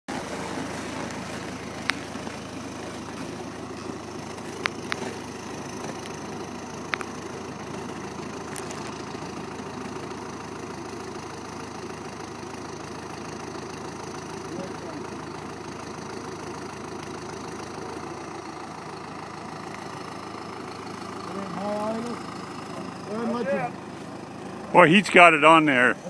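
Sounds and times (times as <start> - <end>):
snowcat engine running: 0.0 - 26.0.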